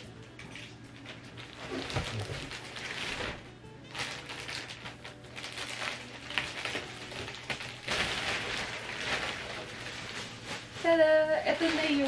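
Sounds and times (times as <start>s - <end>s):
plastic wrapping crinkling: 0.4s - 12.0s.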